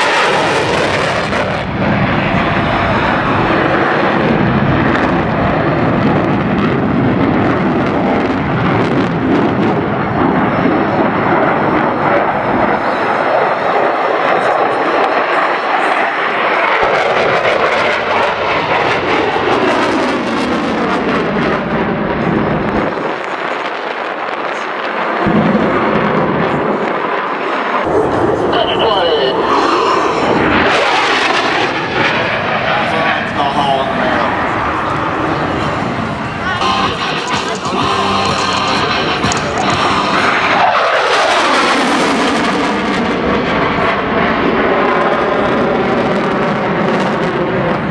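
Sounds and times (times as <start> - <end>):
airplane flying past: 0.0 - 22.8, 27.0 - 47.8.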